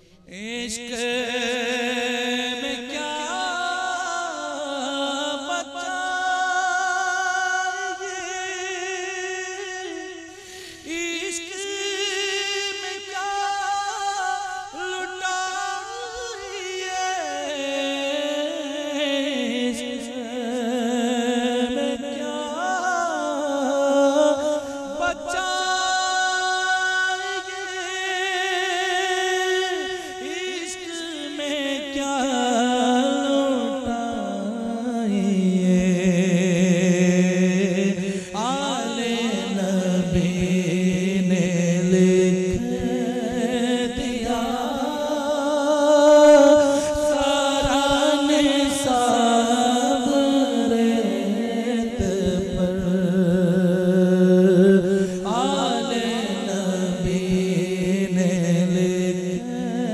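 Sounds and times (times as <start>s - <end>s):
man singing unaccompanied: 0.0s - 59.9s.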